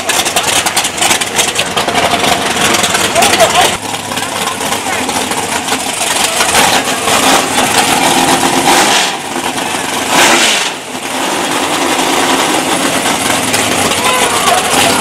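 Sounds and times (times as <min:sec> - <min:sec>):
engine rev: 0:00.0 - 0:15.0
race car engines idling: 0:00.0 - 0:15.0.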